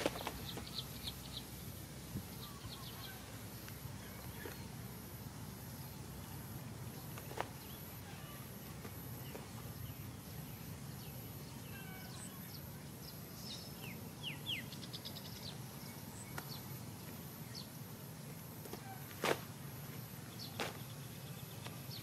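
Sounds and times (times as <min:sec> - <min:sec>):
birds chirping: 0:00.0 - 0:22.0
low outdoor rumble: 0:00.0 - 0:22.0.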